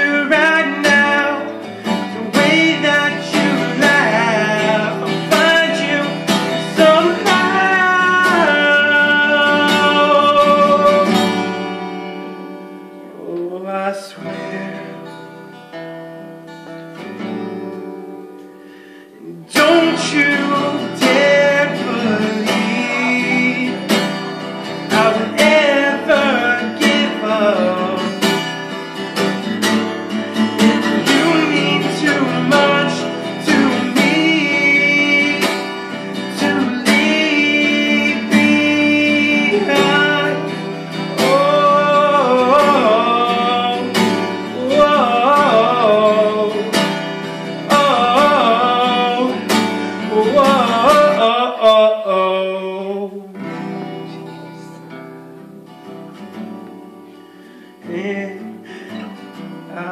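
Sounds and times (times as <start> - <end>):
man singing: 0.0 - 15.5, 19.0 - 55.0, 57.6 - 59.9
acoustic guitar strumming: 0.0 - 59.9.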